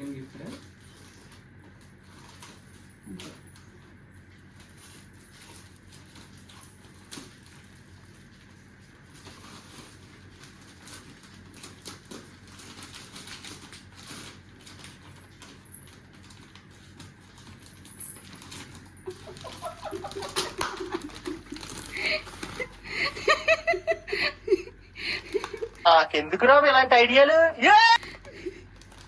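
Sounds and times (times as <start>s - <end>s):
wrapping paper tearing and rustling: 0.0s - 23.9s, 25.3s - 25.8s, 28.2s - 29.0s.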